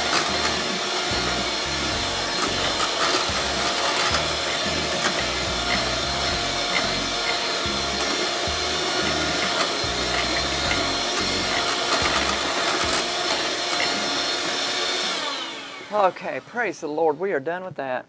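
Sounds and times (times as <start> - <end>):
electric mixer whining: 0.0 - 16.7.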